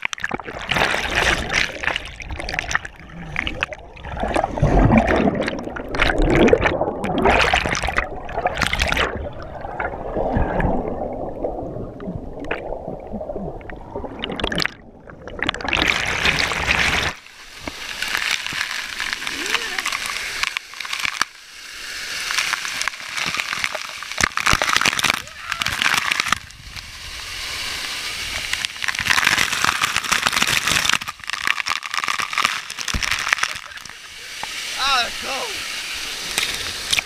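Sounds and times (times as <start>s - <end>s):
underwater churning water: 0.0s - 37.0s.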